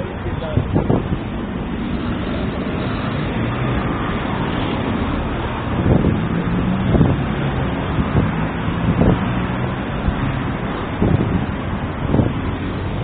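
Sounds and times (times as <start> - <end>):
dense traffic rumble: 0.0 - 13.0
low engine hums: 0.0 - 13.0.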